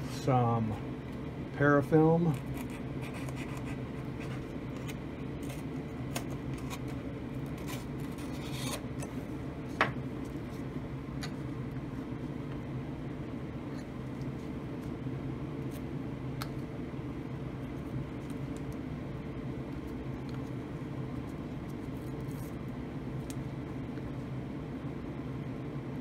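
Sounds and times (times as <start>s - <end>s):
fan humming: 0.0s - 26.0s.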